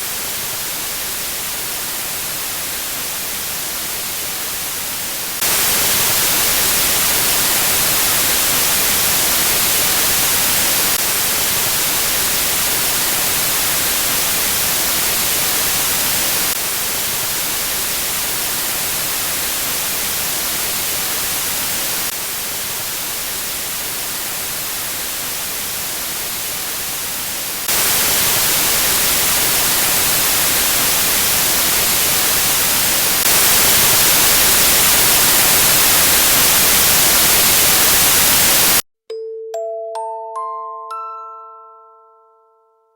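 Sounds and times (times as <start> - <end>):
white noise test hiss: 0.0 - 38.8.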